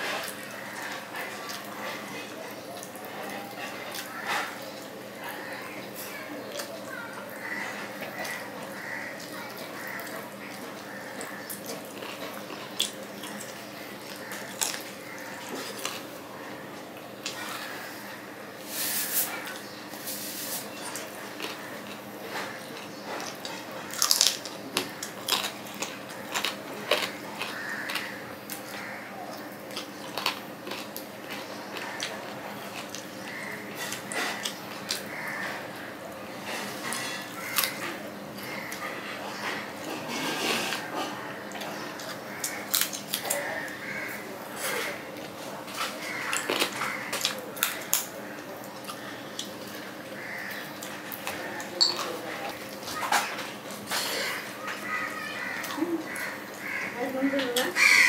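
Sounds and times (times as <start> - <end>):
chewing: 0.0 - 18.4, 19.1 - 57.0.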